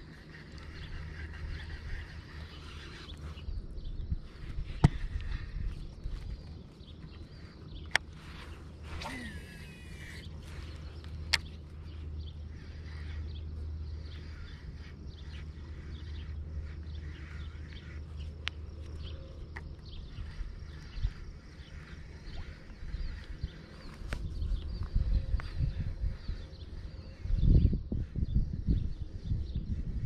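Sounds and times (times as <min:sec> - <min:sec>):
faint bird chirps: 0:00.0 - 0:30.0
steady low rumble: 0:00.0 - 0:30.0.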